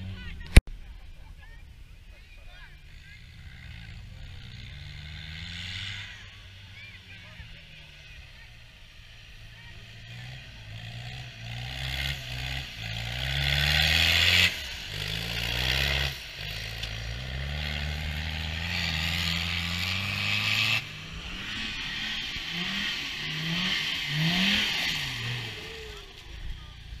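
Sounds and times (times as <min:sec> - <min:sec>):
engine revving hard: 0:03.2 - 0:08.5, 0:09.4 - 0:26.4.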